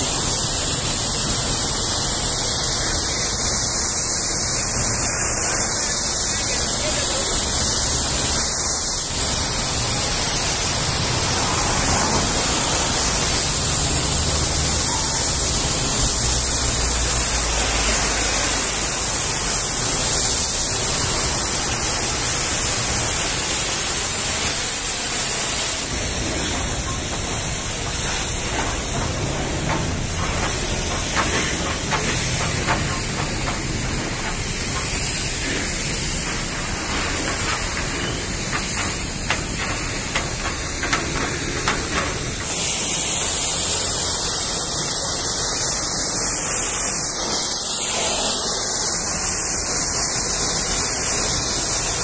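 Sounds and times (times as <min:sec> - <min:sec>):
pressure washer spraying metal: 0:00.0 - 0:52.0.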